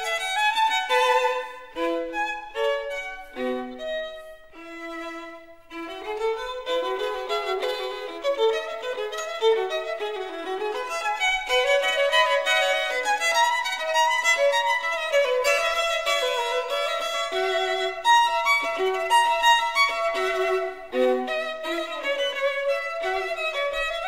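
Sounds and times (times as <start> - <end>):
violin melody: 0.0 - 24.0.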